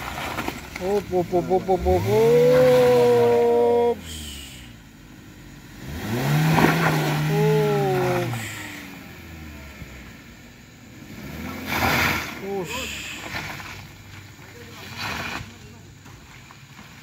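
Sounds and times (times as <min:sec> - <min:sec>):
vehicle engine revving: 0:00.0 - 0:16.3.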